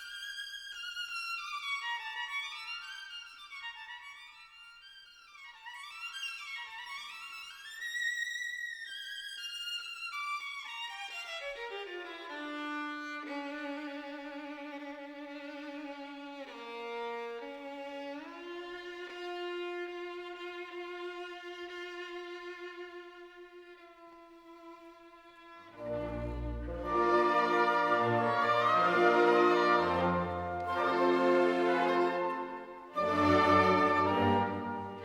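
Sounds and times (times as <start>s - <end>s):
classical violin music: 0.0s - 35.0s.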